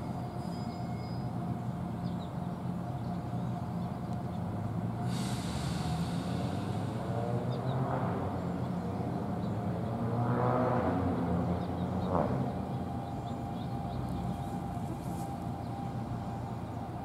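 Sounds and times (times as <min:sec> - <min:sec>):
distant electric train humming: 0:00.0 - 0:09.9, 0:10.8 - 0:17.0.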